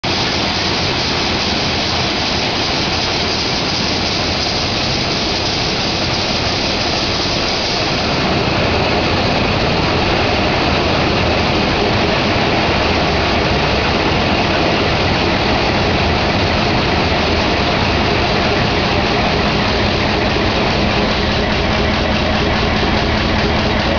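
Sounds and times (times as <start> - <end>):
stationary engine running: 0.1 - 23.9.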